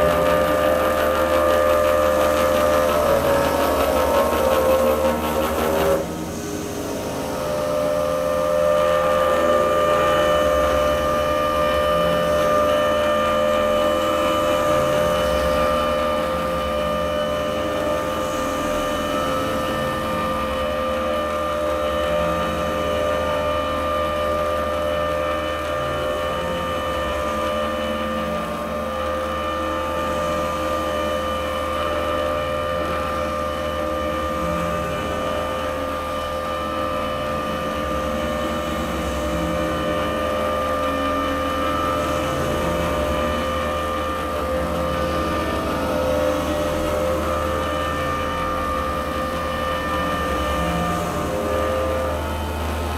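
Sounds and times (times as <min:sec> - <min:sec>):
electronic drone tones: 0:00.0 - 0:52.9.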